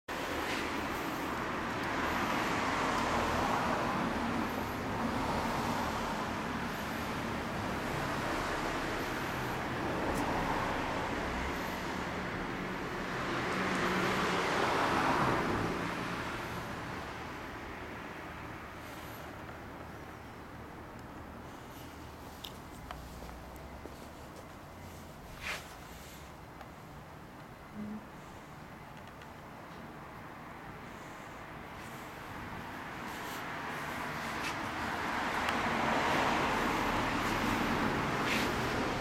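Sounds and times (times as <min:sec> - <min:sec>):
road traffic hum: 0:00.1 - 0:39.0.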